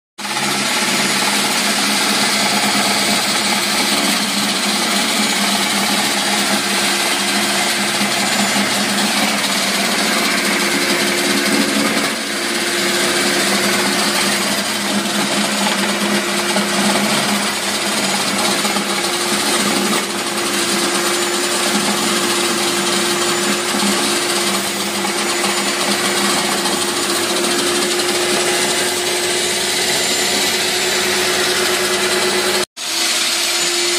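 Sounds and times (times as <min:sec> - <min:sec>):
electric slicing machine running: 0:00.2 - 0:33.9.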